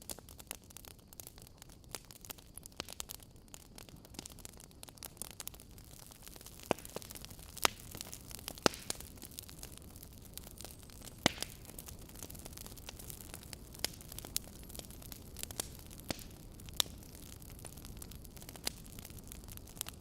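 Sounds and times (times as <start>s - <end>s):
fire crackling: 0.0s - 20.0s
sharp fire pops: 0.0s - 20.0s.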